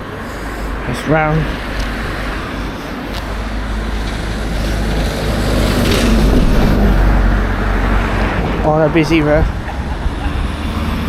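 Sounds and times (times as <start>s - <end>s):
road traffic rumbling: 0.0s - 11.0s
vehicle passing: 0.0s - 11.0s.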